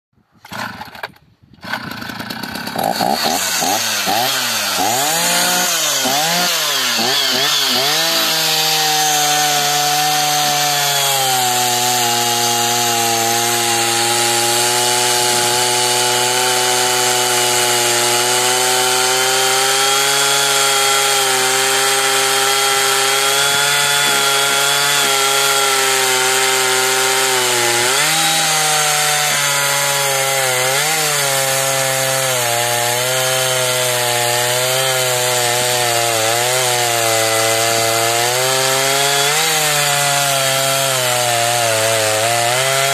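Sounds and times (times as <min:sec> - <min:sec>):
chainsaw cutting log: 0:00.4 - 0:42.9.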